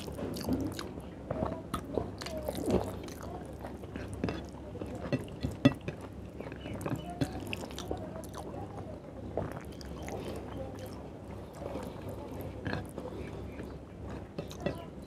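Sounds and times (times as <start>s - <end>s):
wet chewing with mouth clicks: 0.0s - 15.0s.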